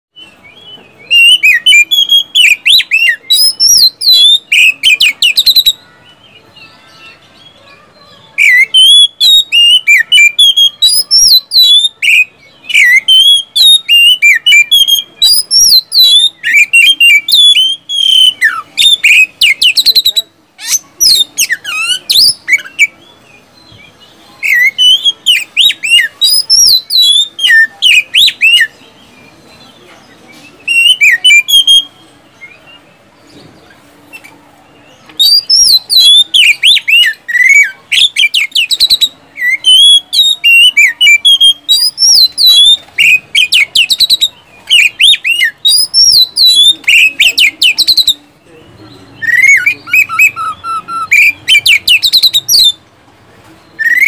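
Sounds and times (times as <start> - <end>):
bird singing whistles: 0.2 - 5.8, 8.4 - 23.0, 23.7 - 28.8, 30.6 - 32.6, 35.2 - 48.2, 49.1 - 52.8, 53.8 - 54.0.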